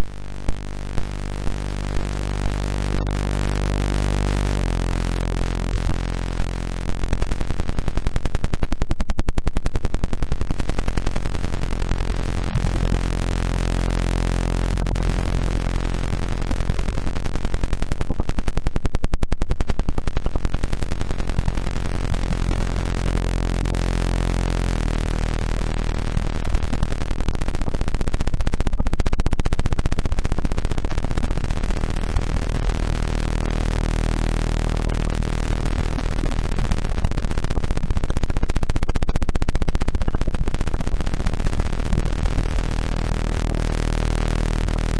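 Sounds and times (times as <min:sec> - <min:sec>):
synthesized pulsing tones: 0:00.0 - 0:07.4, 0:10.7 - 0:18.4, 0:19.7 - 0:44.9.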